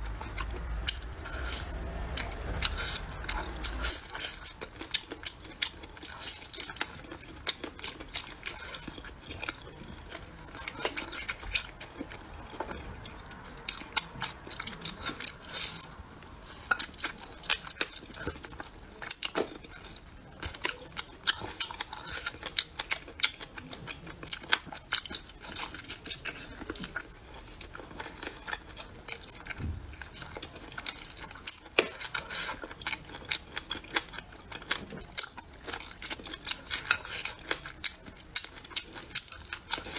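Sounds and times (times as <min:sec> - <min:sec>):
chewing and mouth smacking: 0:00.0 - 0:39.9.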